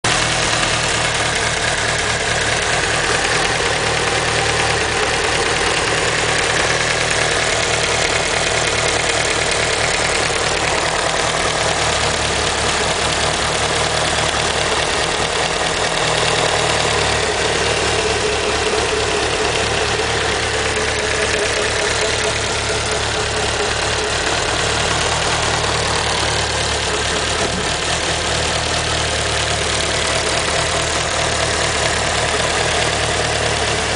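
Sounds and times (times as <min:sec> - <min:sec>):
car engine idling: 0:00.0 - 0:33.9
engine ticking: 0:00.0 - 0:33.9.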